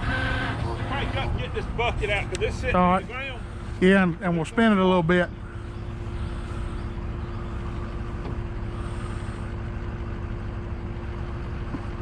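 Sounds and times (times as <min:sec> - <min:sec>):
heavy engine idling: 0:00.0 - 0:12.0
steady whine: 0:00.0 - 0:12.0.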